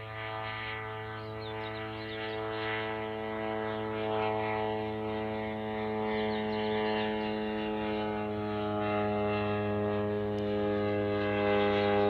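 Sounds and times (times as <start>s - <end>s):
propeller engine droning: 0.0s - 12.0s.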